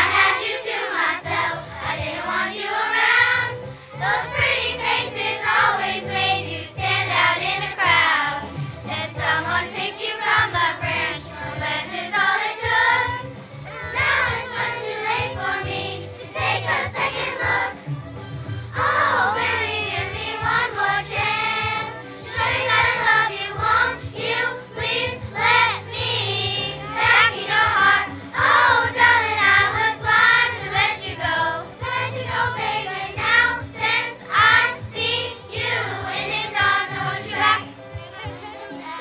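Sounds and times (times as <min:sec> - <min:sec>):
children's choir singing: 0:00.0 - 0:17.9, 0:18.7 - 0:39.0.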